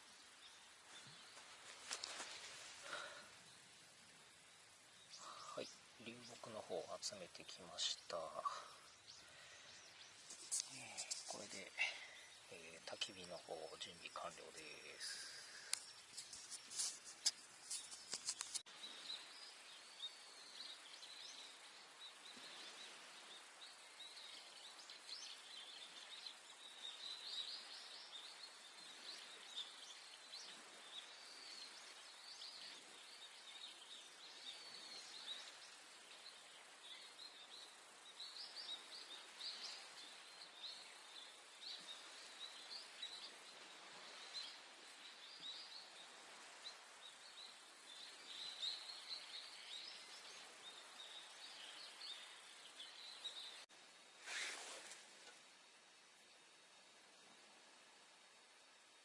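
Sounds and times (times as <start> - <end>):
faint background noise: 0.0 - 59.0
small birds chirping: 0.0 - 59.0.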